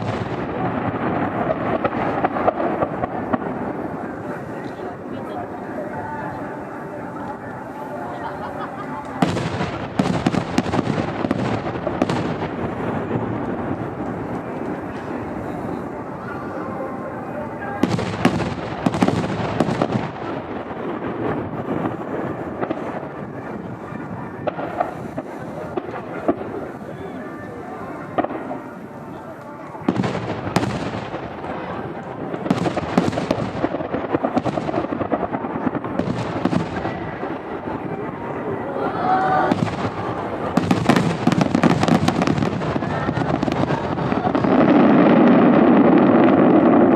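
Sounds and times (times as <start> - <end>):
continuous low rumble: 0.0 - 46.9
fireworks bangs: 0.0 - 46.9.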